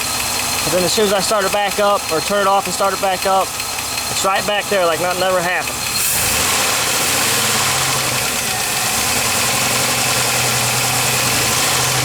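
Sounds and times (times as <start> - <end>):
car engine running with knock: 0.0 - 12.0.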